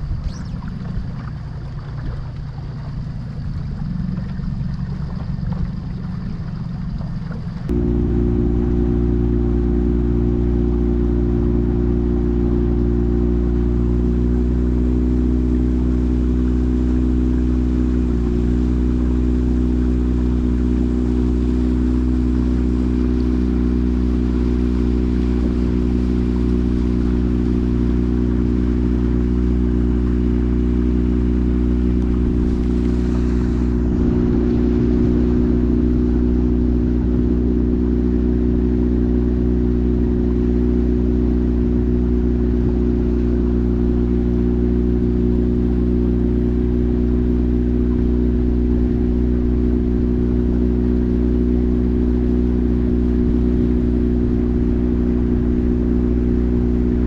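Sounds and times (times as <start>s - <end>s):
motor boat engine running: 0.0s - 57.0s.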